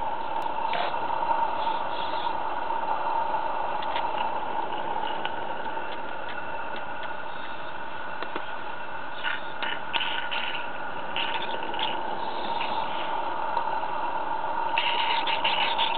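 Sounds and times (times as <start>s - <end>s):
model locomotive running: 0.0s - 15.9s
wheels clicking on rails: 0.0s - 15.9s.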